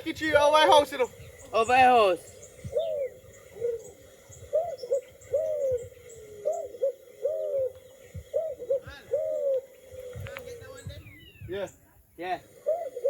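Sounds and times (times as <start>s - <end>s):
bird hooting calls: 0.7s - 11.8s, 12.4s - 13.0s.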